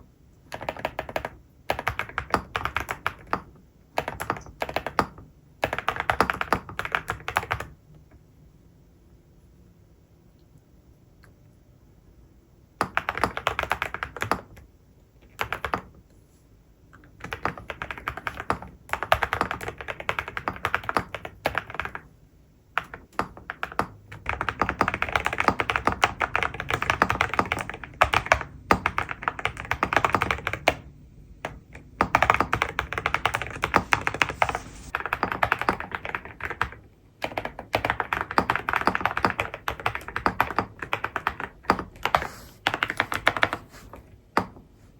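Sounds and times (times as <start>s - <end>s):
mechanical keyboard typing: 0.5s - 7.8s, 12.8s - 16.0s, 17.0s - 22.1s, 22.8s - 43.7s.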